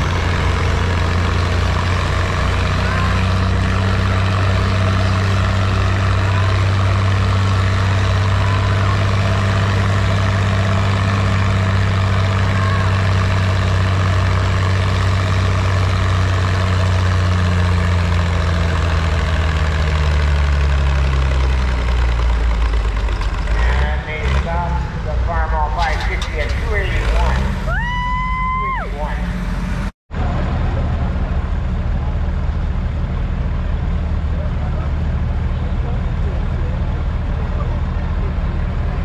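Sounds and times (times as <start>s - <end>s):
tractor engine idling: 0.0s - 39.0s.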